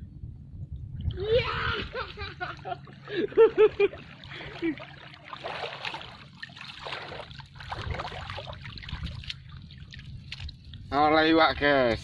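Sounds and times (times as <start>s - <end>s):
water splashing and trickling: 0.8s - 12.0s.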